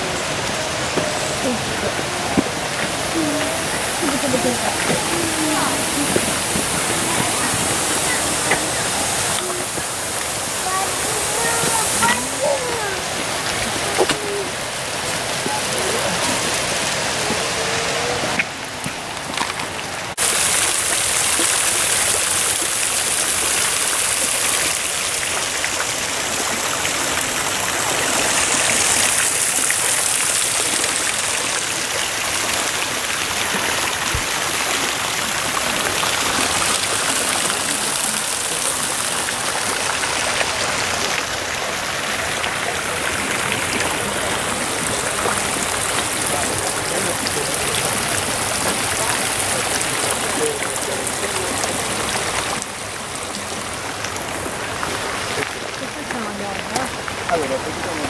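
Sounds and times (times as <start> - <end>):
fountain water splashing into basin: 0.0 - 58.0.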